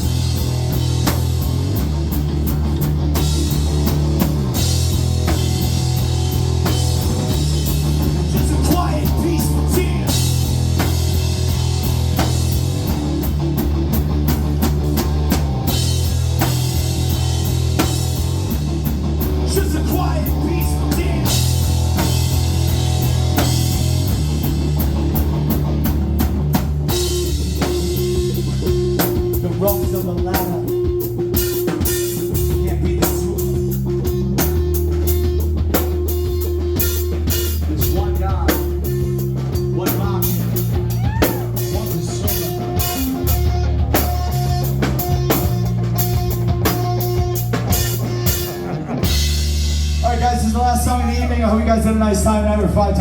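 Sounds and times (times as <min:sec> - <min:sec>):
bass guitar line: 0:00.0 - 0:53.0
drum kit beat with cymbals: 0:00.0 - 0:53.0
electric guitar: 0:00.0 - 0:53.0.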